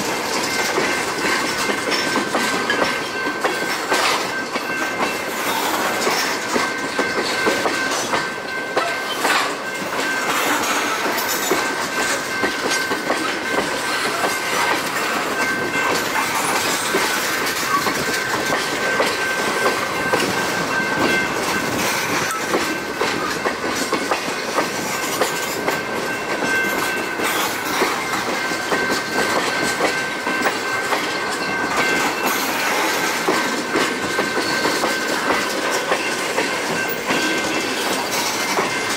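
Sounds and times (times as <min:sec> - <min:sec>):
train rolling rumble: 0:00.0 - 0:38.9
train wheels clicking over rail joints: 0:00.0 - 0:38.9.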